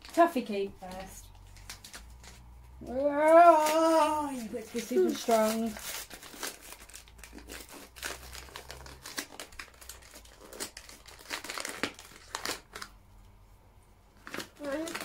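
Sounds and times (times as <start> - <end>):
plastic packet crinkling: 0.0 - 2.5, 3.3 - 13.0, 14.2 - 15.0.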